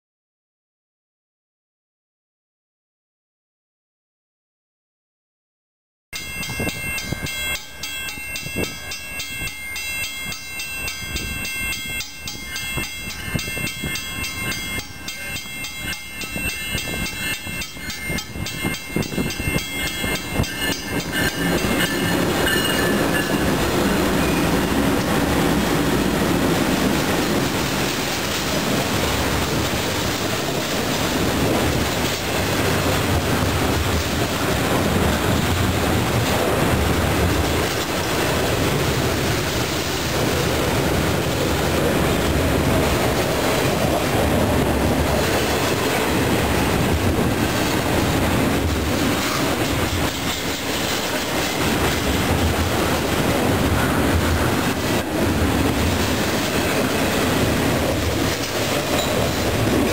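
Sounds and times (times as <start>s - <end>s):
freight train wheels rumbling: 6.2s - 59.9s.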